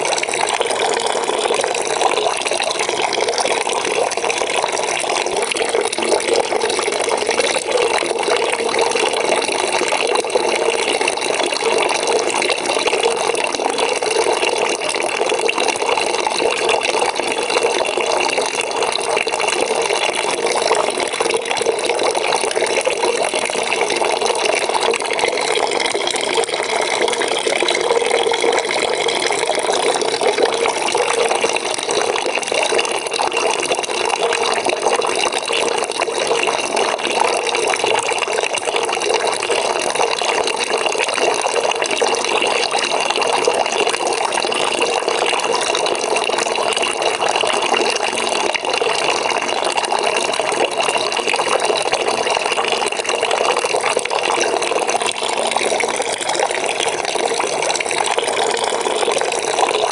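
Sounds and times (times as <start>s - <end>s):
tap water filling a bucket: 0.0s - 59.9s.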